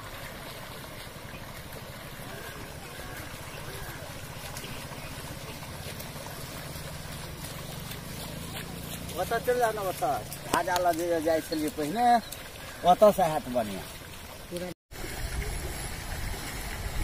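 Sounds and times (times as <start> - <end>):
floodwater rushing over a road: 0.0 - 17.0.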